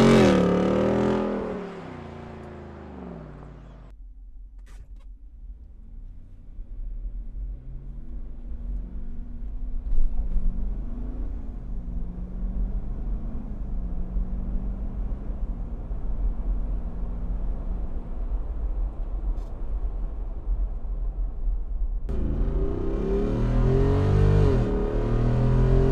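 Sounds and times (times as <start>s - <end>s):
engine running at low revs: 0.0s - 3.9s, 5.2s - 25.9s.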